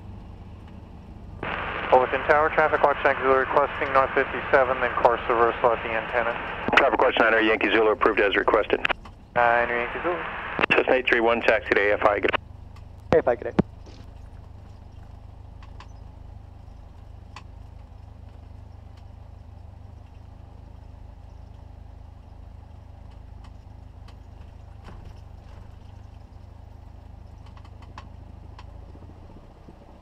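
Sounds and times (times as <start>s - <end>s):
airplane piston engine idling: 0.0s - 30.0s
faint clicks: 1.4s - 30.0s.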